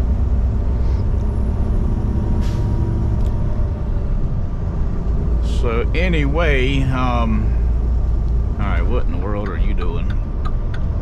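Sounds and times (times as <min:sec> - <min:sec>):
truck diesel engine rumbling: 0:00.0 - 0:11.0.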